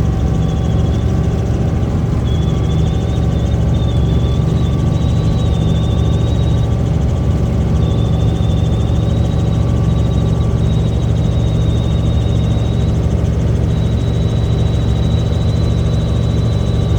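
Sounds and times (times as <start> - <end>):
helicopter engine and rotor drone: 0.0 - 16.9.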